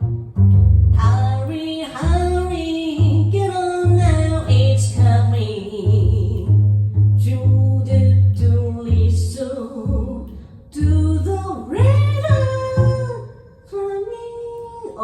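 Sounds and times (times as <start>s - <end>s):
upright bass plucking: 0.0s - 13.3s
woman singing jazz: 1.0s - 15.0s.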